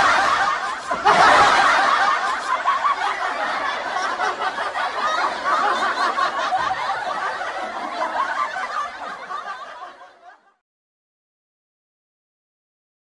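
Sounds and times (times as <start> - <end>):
group of people laughing: 0.0 - 10.6.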